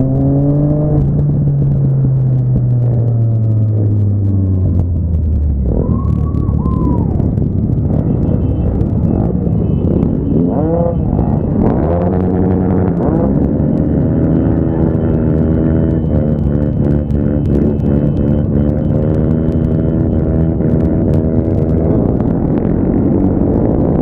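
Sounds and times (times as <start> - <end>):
motorcycle throttle blips: 0.0 - 24.0.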